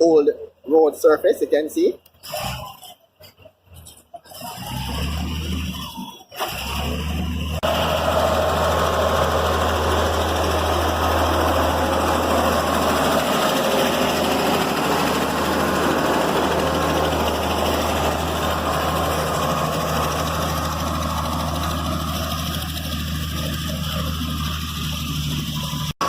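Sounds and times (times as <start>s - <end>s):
digging equipment engine running: 3.7s - 26.0s.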